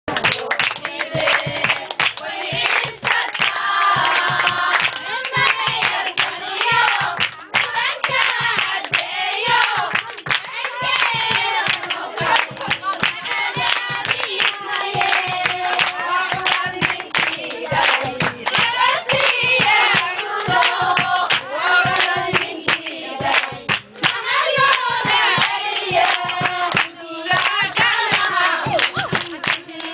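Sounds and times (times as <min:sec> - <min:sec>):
rhythmic hand clapping: 0:00.1 - 0:29.9
women singing together: 0:00.1 - 0:29.9.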